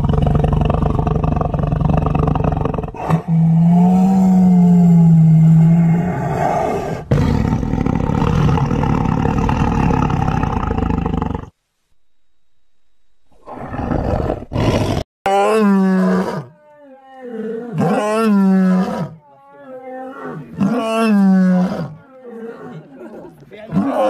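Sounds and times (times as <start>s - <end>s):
lion roaring: 0.0s - 11.5s, 13.4s - 23.1s
tiger growling and roaring: 0.0s - 11.5s, 13.4s - 24.0s.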